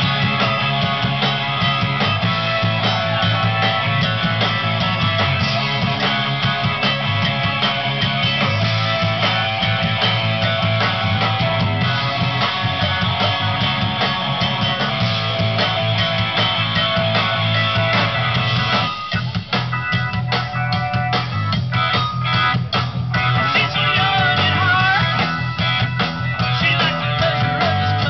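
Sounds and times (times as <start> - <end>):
drum kit: 0.0 - 28.0
electric guitar: 0.0 - 28.0.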